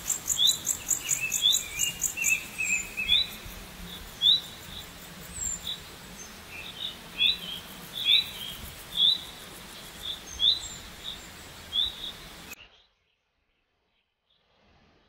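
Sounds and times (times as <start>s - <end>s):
steady background hiss: 0.0s - 12.6s
small bird chirping: 0.0s - 14.5s.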